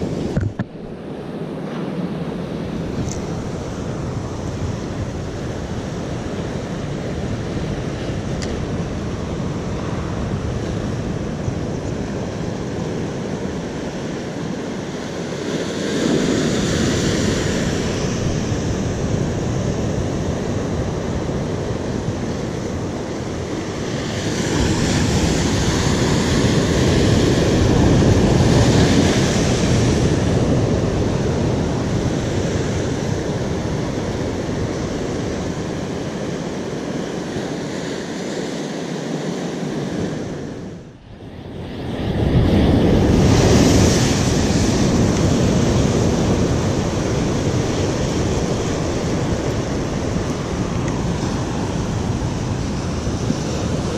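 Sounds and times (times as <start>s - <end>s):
waves breaking on rocky shore: 0.0s - 40.6s, 41.8s - 53.9s.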